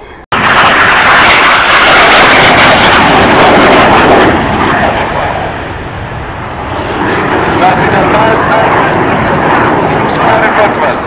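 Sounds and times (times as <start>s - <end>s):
jets flying by low: 0.0s - 11.0s.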